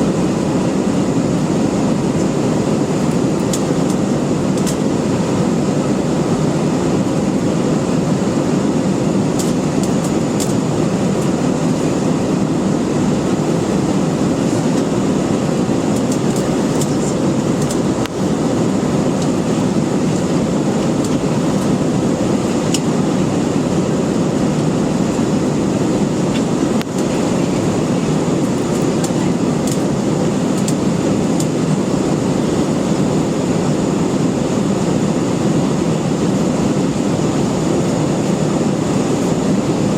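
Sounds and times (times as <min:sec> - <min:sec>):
jet engine and airflow rush: 0:00.0 - 0:39.9.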